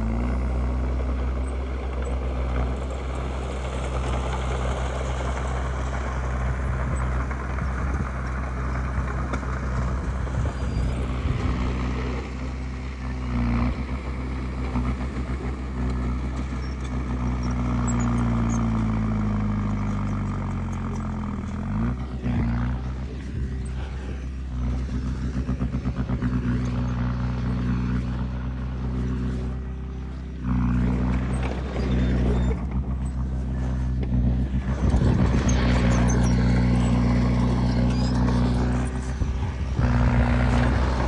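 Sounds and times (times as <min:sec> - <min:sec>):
bulldozer diesel engine under load: 0:00.0 - 0:41.0.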